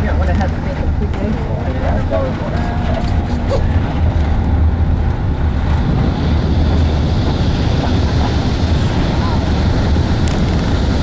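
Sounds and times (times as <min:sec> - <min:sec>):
vehicle engine and road rumble: 0:00.0 - 0:11.0
wind noise: 0:00.0 - 0:11.0.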